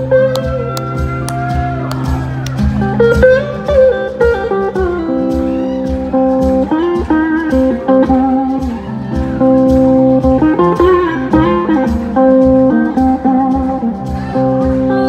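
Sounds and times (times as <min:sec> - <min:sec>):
blues-rock band playing: 0:00.0 - 0:15.0
slide guitar: 0:00.0 - 0:15.0.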